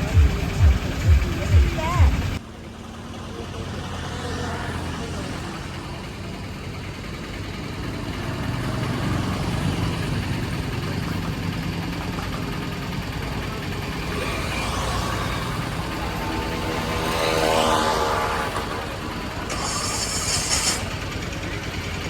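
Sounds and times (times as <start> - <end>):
vehicle approaching: 0.0 - 22.0
vehicle engines rumbling: 0.0 - 22.0.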